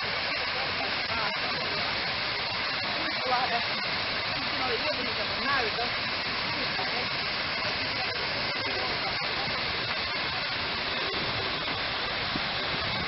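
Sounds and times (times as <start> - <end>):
fountain spray falling into basin: 0.0 - 13.0.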